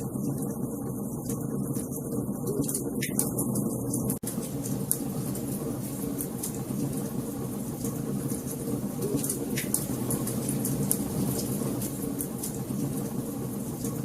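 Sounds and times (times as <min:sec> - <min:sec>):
low rumble of flames: 0:00.0 - 0:14.0
fire crackling and popping: 0:00.1 - 0:14.0.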